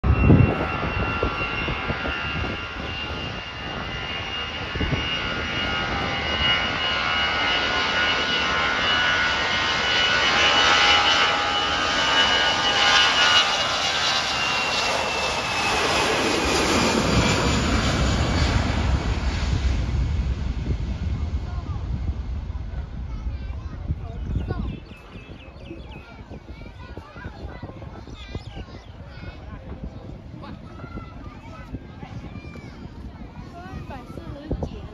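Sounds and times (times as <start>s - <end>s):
jet airliner taking off: 0.0s - 34.9s.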